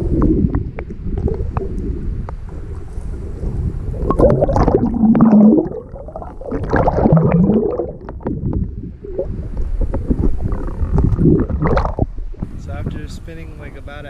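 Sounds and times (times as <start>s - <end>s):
underwater river gurgling: 0.0s - 12.6s.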